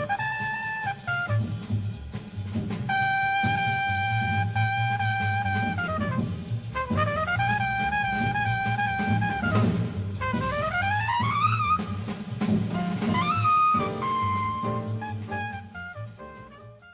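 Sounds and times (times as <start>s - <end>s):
low accompaniment: 0.0s - 16.9s
sliding lead melody: 2.8s - 16.9s.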